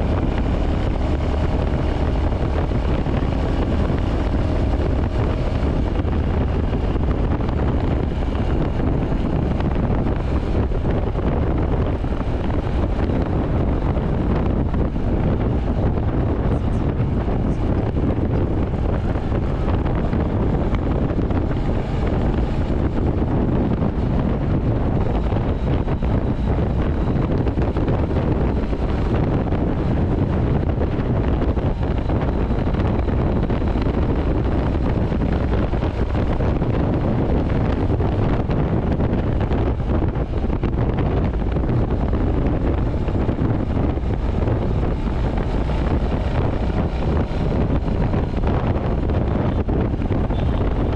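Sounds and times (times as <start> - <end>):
motorcycle engine and exhaust cruising: 0.0 - 50.9
wind noise on microphone: 0.0 - 50.9.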